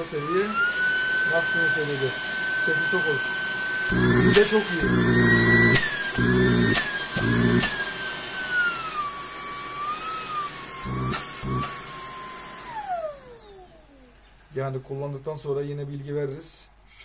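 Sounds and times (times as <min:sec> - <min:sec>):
vacuum motor whining: 0:00.0 - 0:14.2.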